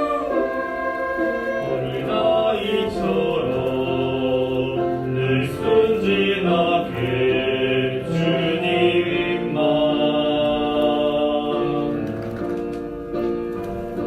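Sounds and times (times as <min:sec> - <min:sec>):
orchestra and choir performing: 0:00.0 - 0:12.1.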